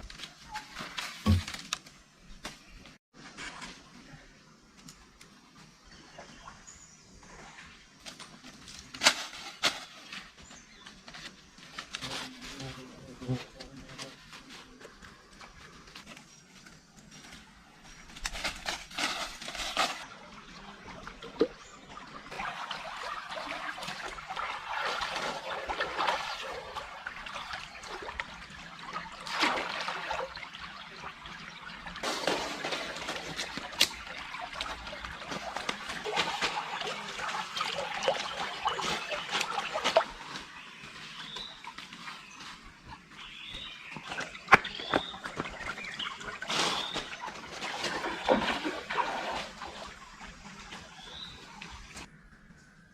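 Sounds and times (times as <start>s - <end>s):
water trickling and splashing: 5.0s - 12.6s, 13.4s - 52.3s.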